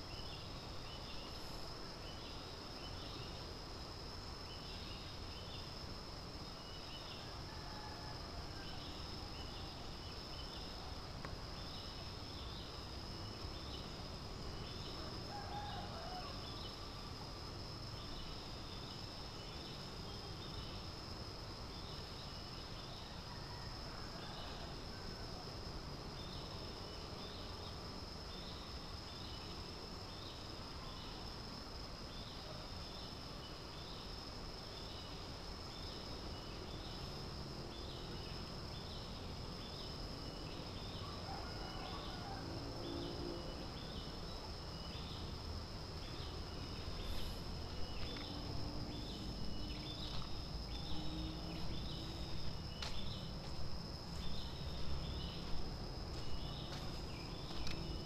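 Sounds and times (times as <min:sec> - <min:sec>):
insects droning high whine: 0:00.0 - 0:58.0.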